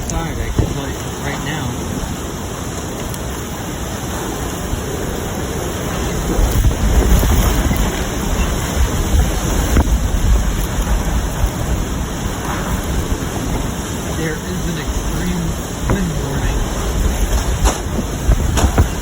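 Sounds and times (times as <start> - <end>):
driving rain: 0.0 - 19.0
hurricane wind: 0.0 - 19.0
wind gusts buffeting microphone: 0.0 - 19.0.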